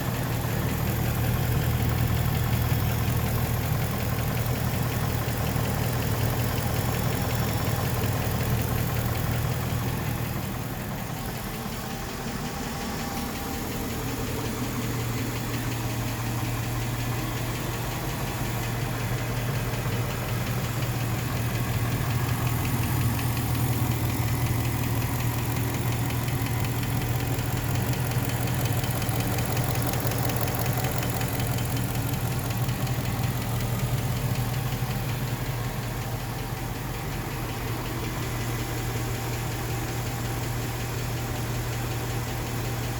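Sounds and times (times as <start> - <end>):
engine idling with a knock: 0.1 - 42.9.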